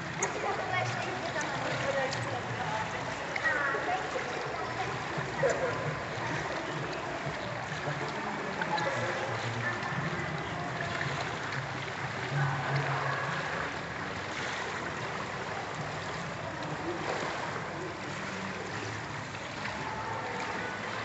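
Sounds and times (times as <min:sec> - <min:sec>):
water splashing from swimmer: 0:00.0 - 0:21.0.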